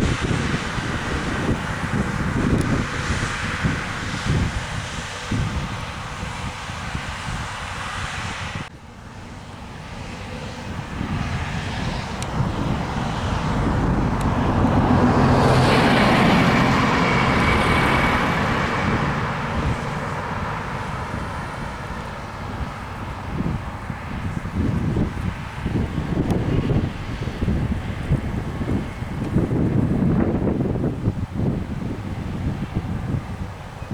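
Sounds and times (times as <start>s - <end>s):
combine harvester engine drone: 0.0s - 33.9s
wind buffeting microphone: 0.0s - 33.9s.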